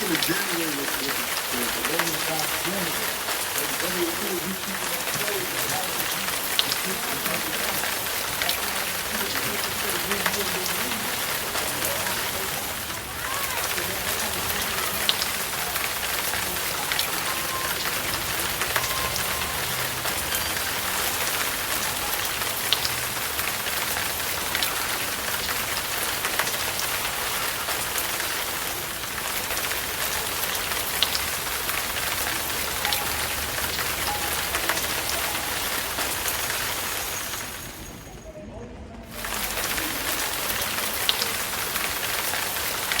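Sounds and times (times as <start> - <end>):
raindrops tapping: 0.0 - 38.2, 39.0 - 43.0
rain falling: 0.0 - 38.4, 39.0 - 43.0.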